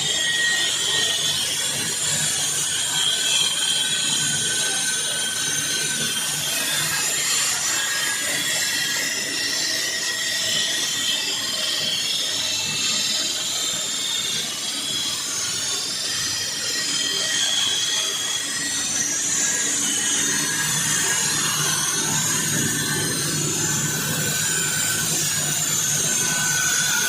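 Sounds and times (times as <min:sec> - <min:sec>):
saw blade grinding concrete: 0:00.0 - 0:27.0.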